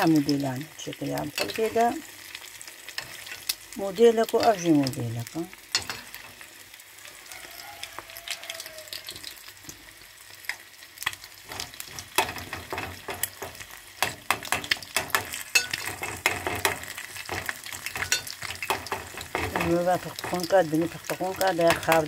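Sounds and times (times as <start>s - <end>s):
metal spoon in pan: 0.0s - 6.5s, 10.5s - 22.0s
eggs sizzling in hot oil: 0.0s - 22.0s.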